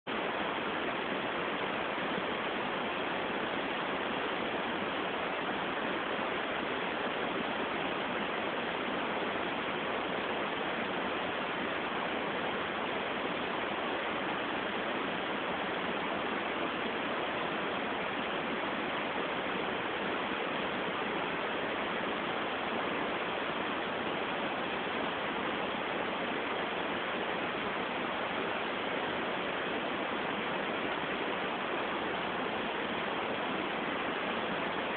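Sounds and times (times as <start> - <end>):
steady hiss: 0.1 - 34.9.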